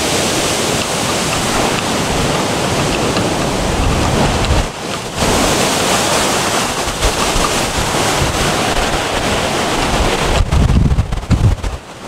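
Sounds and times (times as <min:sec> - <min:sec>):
blizzard wind rushing: 0:00.0 - 0:12.0
wind buffeting microphone: 0:00.0 - 0:12.0.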